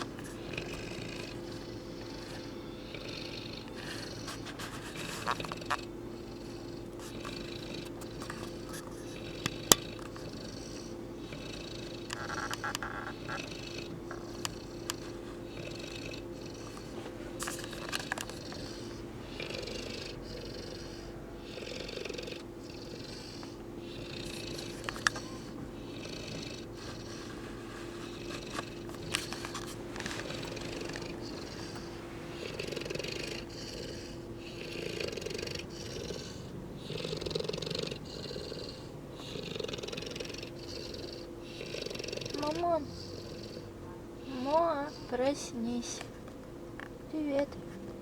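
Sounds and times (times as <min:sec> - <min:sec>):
puppy snoring: 0:00.0 - 0:48.0.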